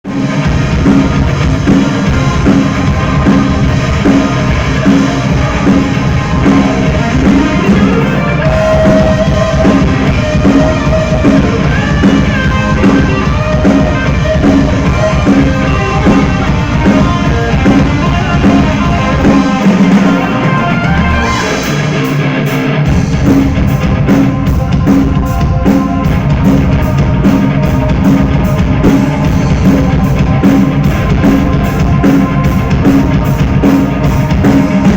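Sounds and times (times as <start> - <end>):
rock band playing live: 0.0 - 34.9.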